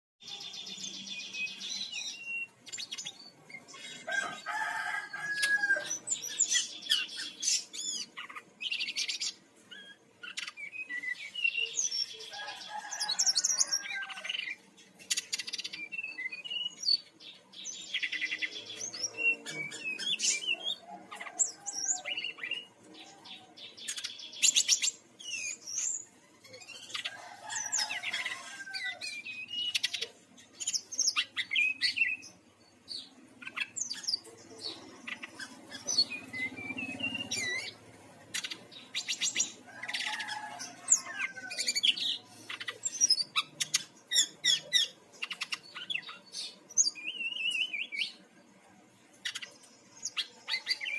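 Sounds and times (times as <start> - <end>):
bird singing varied song: 0.2 - 50.9.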